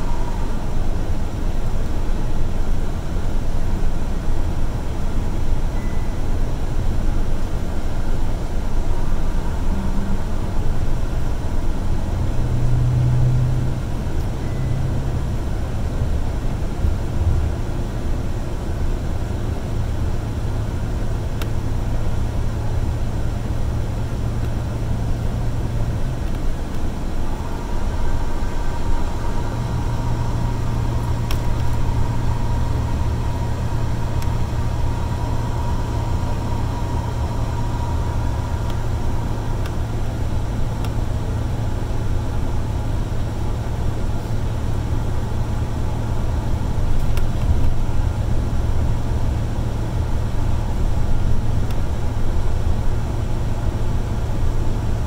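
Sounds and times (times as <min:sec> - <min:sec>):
faint high whine: 0:00.0 - 0:16.0, 0:19.1 - 0:55.0
bus engine drone: 0:00.0 - 0:55.0
tyre and road noise: 0:07.2 - 0:55.0.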